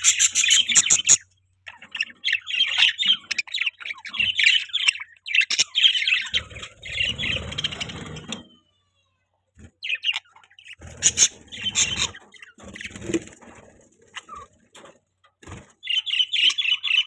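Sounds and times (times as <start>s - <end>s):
budgies chirping: 0.0s - 17.0s.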